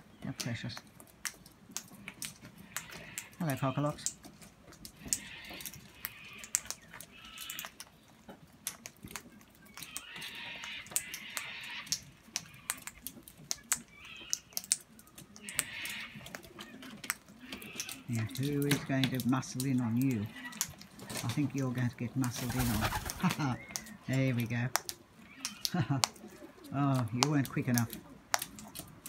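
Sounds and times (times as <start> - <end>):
birds pecking and cracking seed: 0.0 - 29.0.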